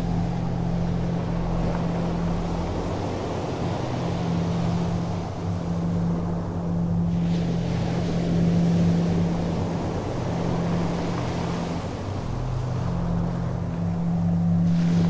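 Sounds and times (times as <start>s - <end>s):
boat engine humming: 0.0s - 15.0s
wind noise on microphone: 0.0s - 15.0s.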